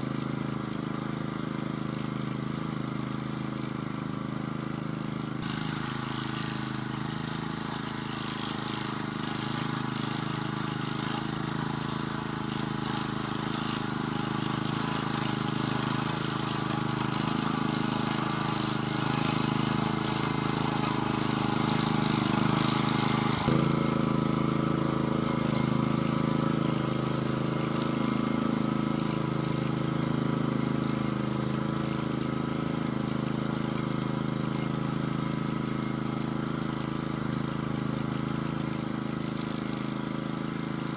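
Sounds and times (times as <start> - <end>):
walk-behind tractor engine: 0.0 - 40.9.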